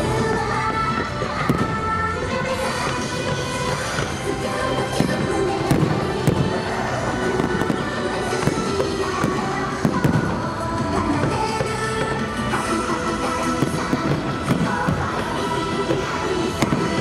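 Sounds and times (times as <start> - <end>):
anime song music: 0.0 - 17.0
fireworks bursting with sharp bangs: 0.0 - 17.0.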